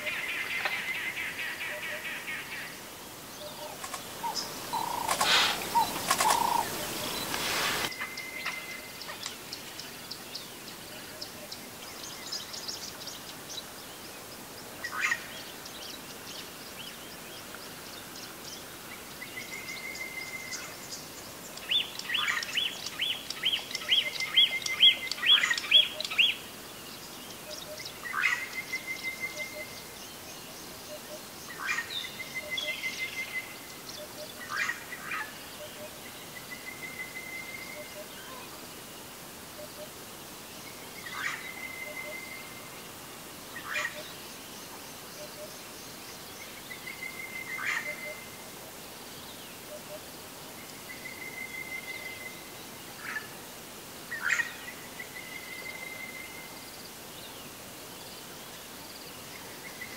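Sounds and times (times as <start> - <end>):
birds calling: 0.0 - 38.9, 39.5 - 53.4.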